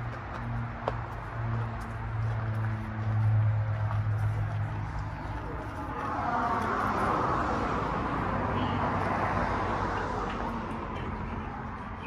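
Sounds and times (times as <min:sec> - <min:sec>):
vehicle tyre noise passing: 0:00.0 - 0:12.0.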